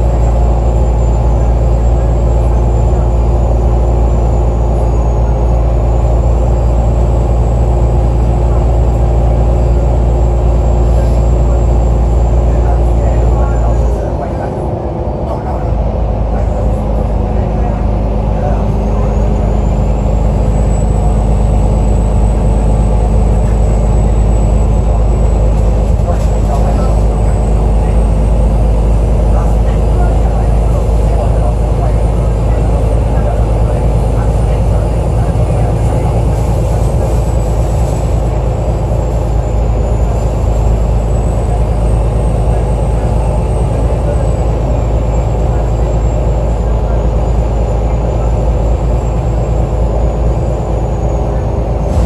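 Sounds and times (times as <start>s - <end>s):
bus engine rumble: 0.0s - 52.0s
high-pitched whine: 0.0s - 52.0s.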